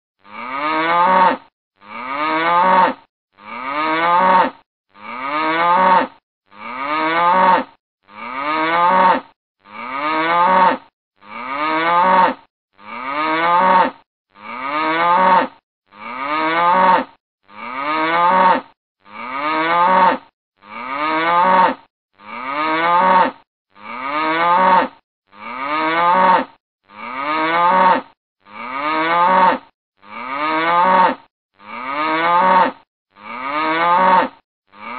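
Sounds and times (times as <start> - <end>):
cow mooing: 0.2 - 34.9.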